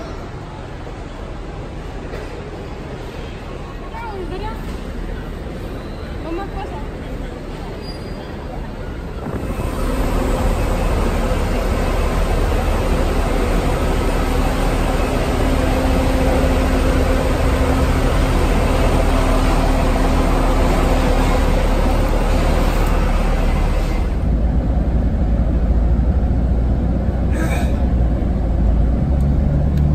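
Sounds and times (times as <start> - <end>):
bus engine rumbling: 0.0 - 29.9.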